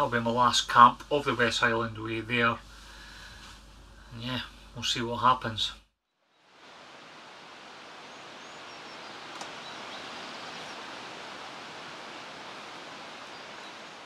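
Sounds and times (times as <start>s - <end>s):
hiss of wind or water: 0.0s - 4.9s, 6.3s - 14.0s.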